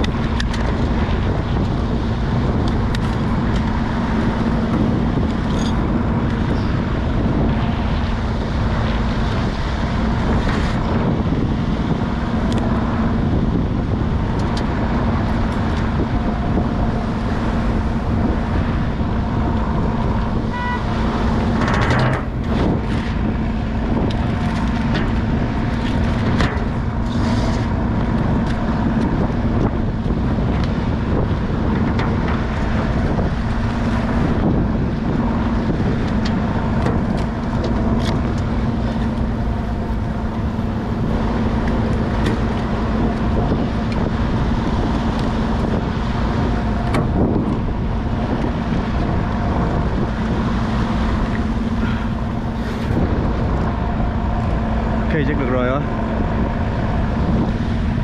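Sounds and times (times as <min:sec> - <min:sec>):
boat engine humming: 0:00.0 - 0:58.0
water noise: 0:00.0 - 0:58.0
wind: 0:00.0 - 0:58.0.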